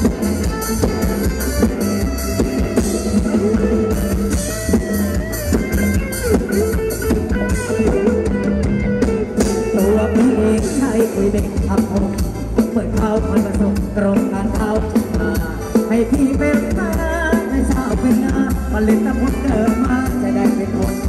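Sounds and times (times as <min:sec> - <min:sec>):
drum kit beat: 0:00.0 - 0:21.0
sliding lead melody: 0:00.0 - 0:21.0.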